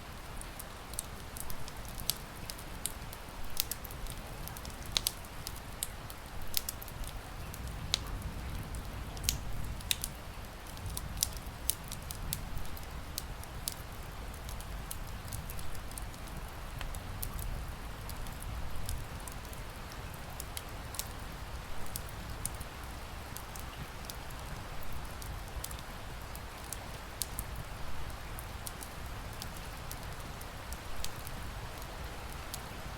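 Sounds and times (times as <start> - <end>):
wood fire crackling and popping: 0.4 - 21.2, 23.2 - 32.7.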